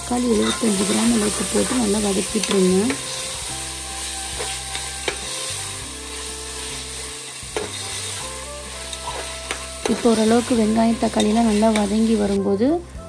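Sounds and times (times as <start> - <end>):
vegetables sizzling in hot oil: 0.0 - 12.6.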